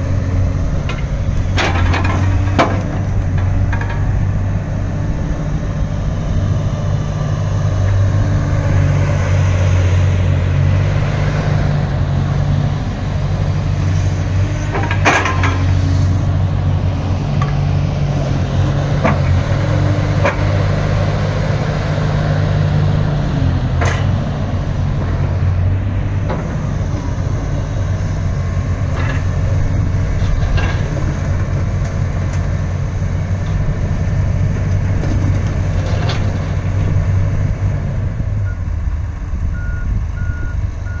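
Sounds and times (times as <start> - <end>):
excavator diesel engine humming: 0.0 - 41.0.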